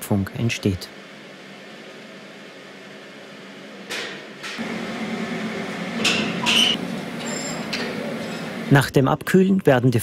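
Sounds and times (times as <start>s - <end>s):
loud steady hum: 0.0s - 9.0s.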